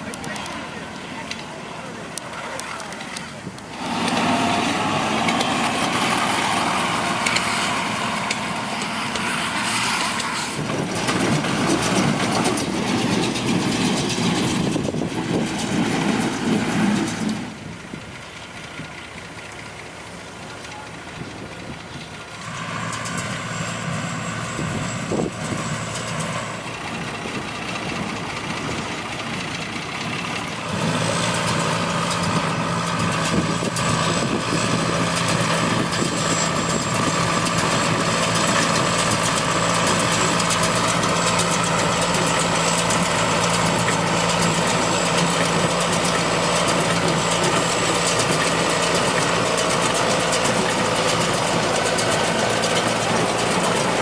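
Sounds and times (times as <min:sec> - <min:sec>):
heavy farm machinery engine: 0:00.0 - 0:54.0.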